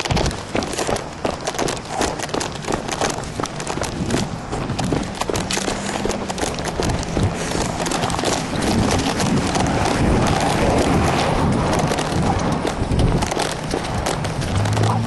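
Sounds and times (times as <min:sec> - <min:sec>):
footsteps on pavement: 0:00.0 - 0:15.0
steady rushing noise: 0:00.0 - 0:15.0.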